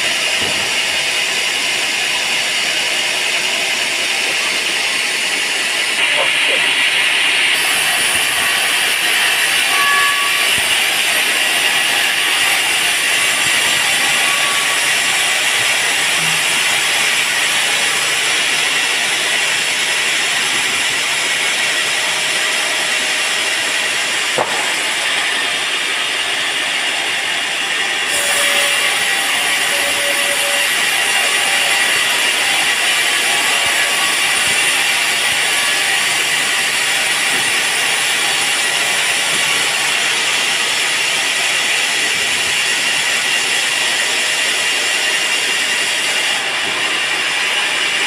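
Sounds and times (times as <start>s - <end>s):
band saw cutting log: 0.0s - 48.0s.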